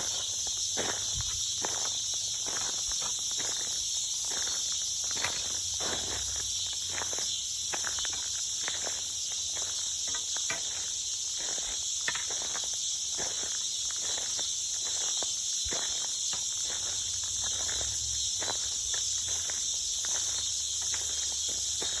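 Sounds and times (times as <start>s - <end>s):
footsteps on a trail: 0.0s - 22.0s
high-pitched insect chorus: 0.0s - 22.0s.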